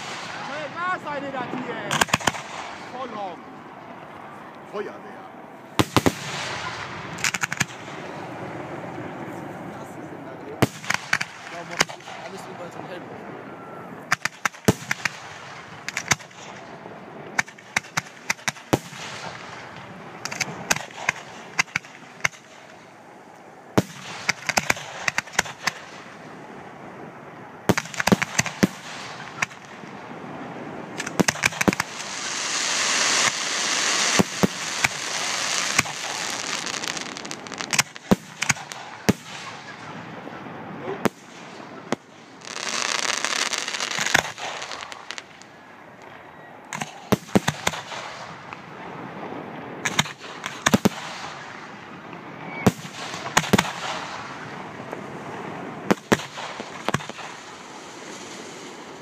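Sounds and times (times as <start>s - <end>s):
dense hissing crackle: 0.0s - 13.0s, 14.0s - 59.0s
firework bangs: 0.0s - 59.0s.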